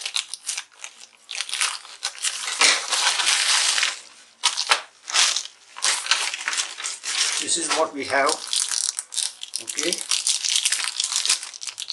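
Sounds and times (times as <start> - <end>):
plastic crinkling and rustling: 0.0 - 11.9.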